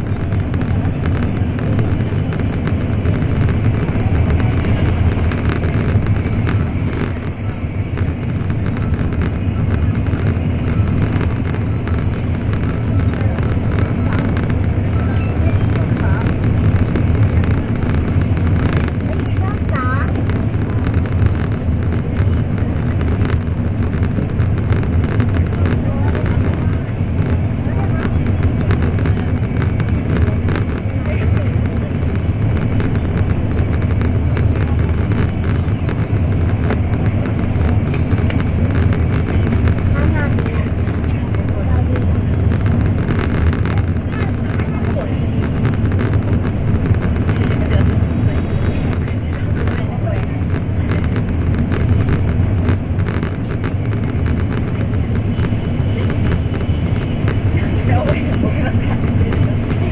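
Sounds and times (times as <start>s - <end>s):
train running gear rumble: 0.0s - 59.9s.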